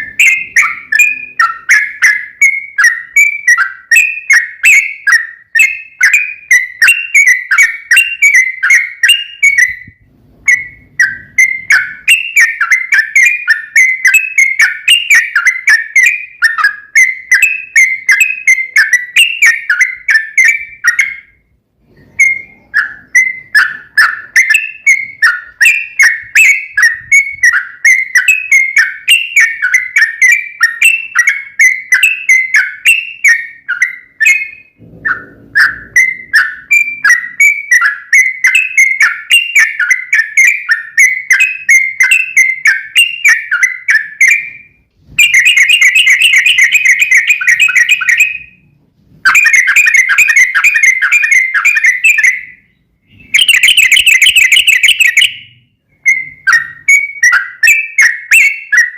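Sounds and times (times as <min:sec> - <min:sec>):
bulbul whistled chirps: 0:00.0 - 0:58.9.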